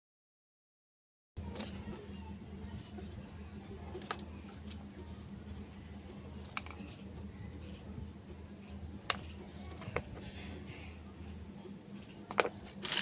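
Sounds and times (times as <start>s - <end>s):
steady low hum: 1.4s - 13.0s.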